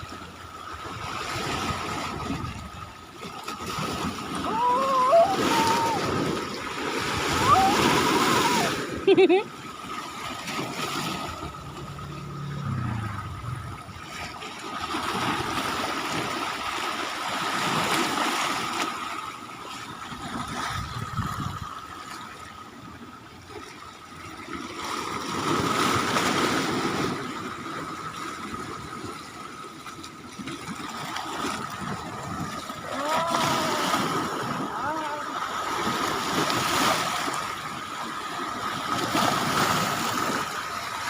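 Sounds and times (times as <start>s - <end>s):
seawater splashing along shore: 0.0s - 41.0s.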